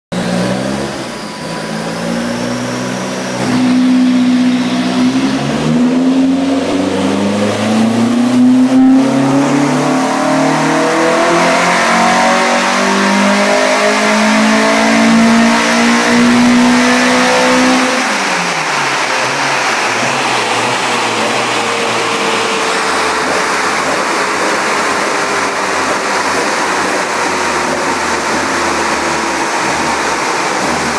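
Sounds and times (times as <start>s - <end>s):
race car engine under load: 0.1s - 30.9s.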